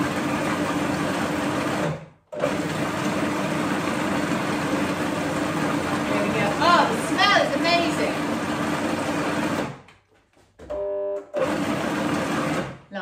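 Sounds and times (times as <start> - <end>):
food processor motor running: 0.0 - 9.8, 10.7 - 12.8.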